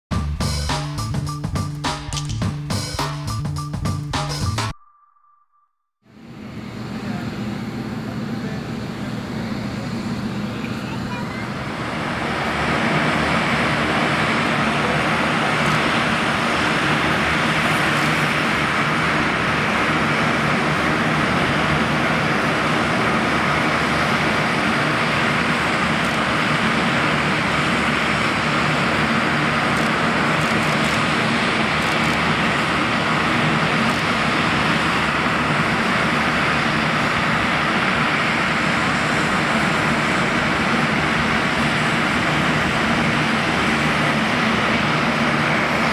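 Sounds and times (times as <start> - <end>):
jet engines rushing: 6.1 - 45.9.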